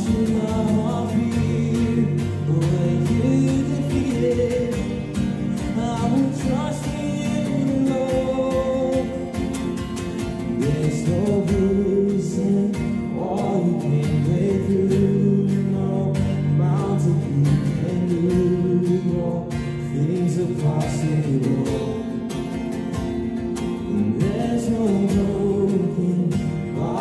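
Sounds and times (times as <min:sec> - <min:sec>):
man singing: 0:00.0 - 0:22.6, 0:23.8 - 0:27.0
strummed acoustic guitar: 0:00.0 - 0:27.0.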